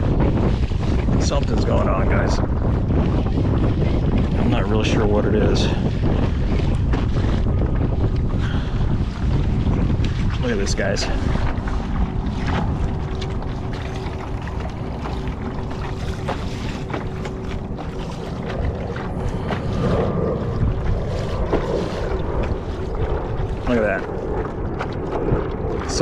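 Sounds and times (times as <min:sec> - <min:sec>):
water rushing along kayak hull: 0:00.0 - 0:26.0
wind on microphone: 0:00.0 - 0:26.0.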